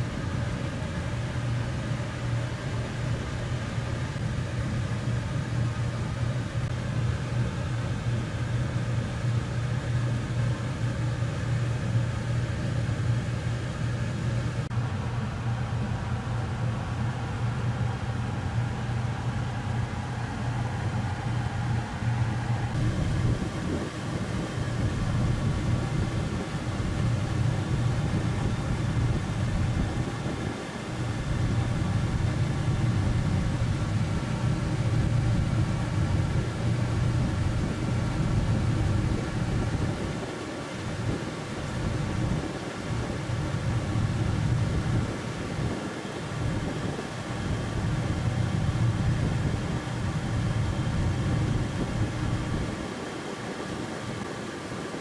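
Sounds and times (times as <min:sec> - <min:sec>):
air conditioner units humming: 0:00.0 - 0:55.0.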